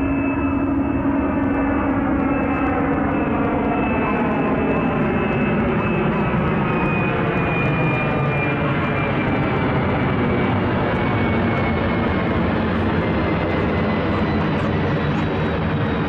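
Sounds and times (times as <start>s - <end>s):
high jet whine: 0.0s - 16.0s
jet airliner roar: 0.0s - 16.0s.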